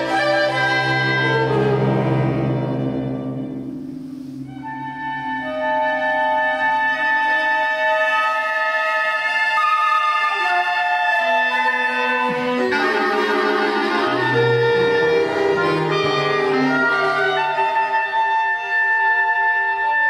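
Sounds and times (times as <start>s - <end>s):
instrumental wind music: 0.0s - 20.0s.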